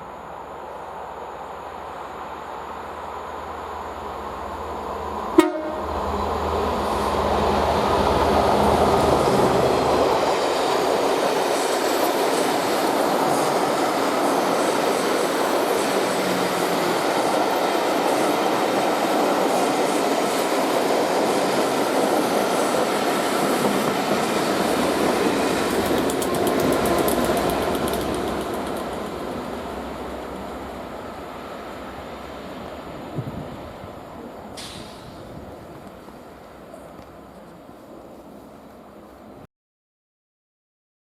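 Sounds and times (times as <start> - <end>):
train passing on rails: 0.0 - 39.4.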